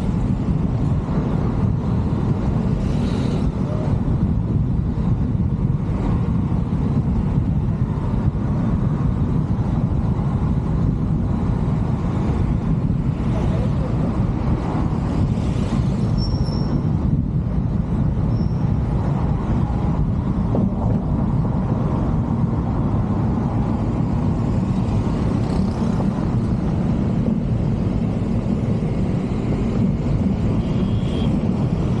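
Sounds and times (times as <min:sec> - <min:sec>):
road and wind noise: 0:00.0 - 0:32.0.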